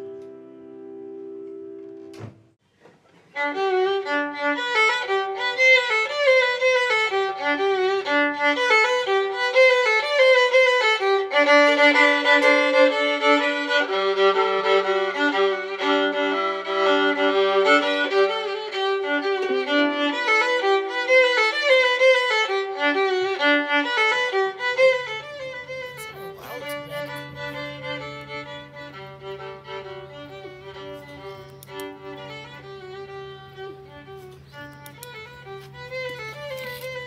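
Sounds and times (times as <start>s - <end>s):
violin melody with vibrato: 3.4s - 37.0s.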